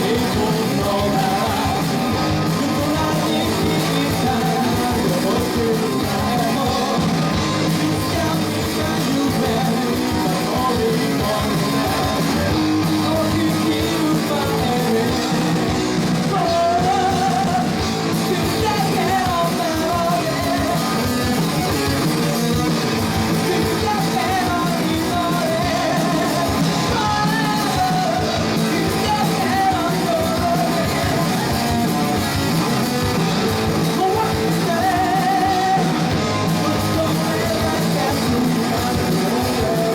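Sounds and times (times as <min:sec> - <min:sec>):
rock music with singing: 0:00.0 - 0:39.9.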